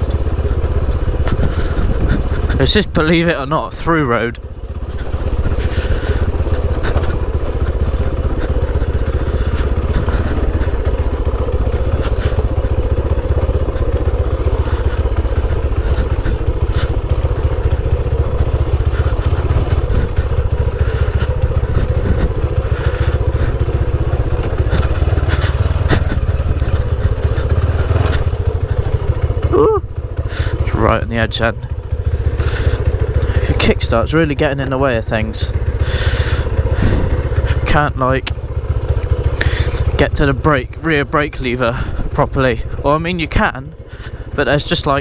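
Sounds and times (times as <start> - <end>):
bike knocking and rattling: 0.0 - 45.0
motorcycle engine running: 0.0 - 45.0.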